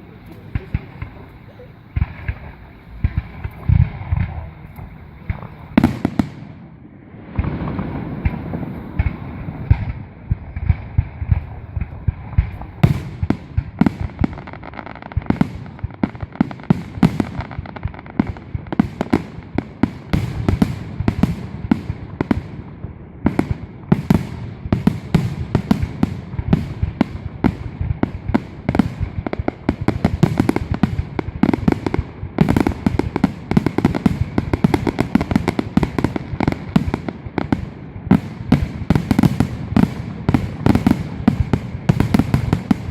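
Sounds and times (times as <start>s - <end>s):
fireworks bursts and crackling bangs: 0.0s - 42.9s.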